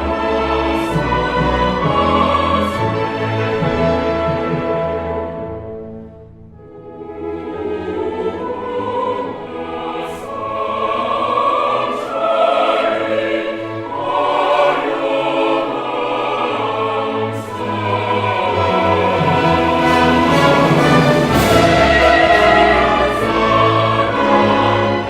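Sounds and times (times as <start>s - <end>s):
choir singing: 0.0s - 5.6s, 6.6s - 25.0s
orchestral music: 0.0s - 25.0s.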